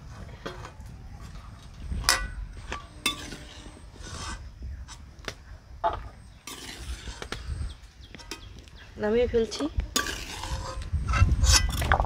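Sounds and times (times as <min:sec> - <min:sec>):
pot scraping and rubbing: 0:00.0 - 0:05.1, 0:05.8 - 0:08.6, 0:09.4 - 0:12.0.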